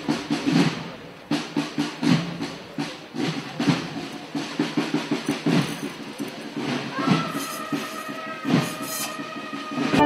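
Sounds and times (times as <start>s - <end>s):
drums beating a march rhythm: 0.0s - 10.0s.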